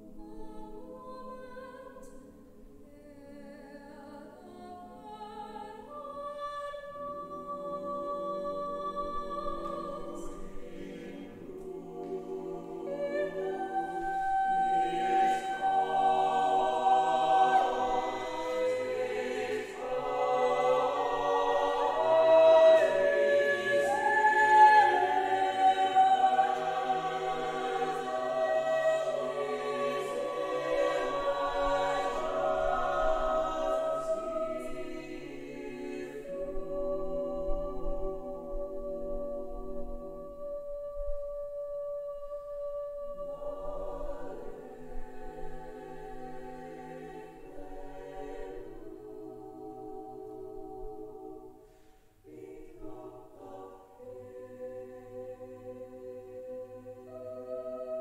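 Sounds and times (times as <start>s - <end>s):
choir singing unaccompanied: 0.0s - 58.0s.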